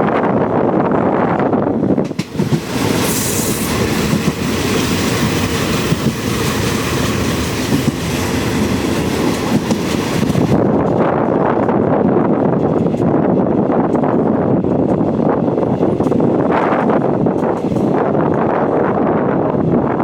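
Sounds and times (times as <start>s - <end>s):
train wheels clattering on track: 1.4s - 18.8s.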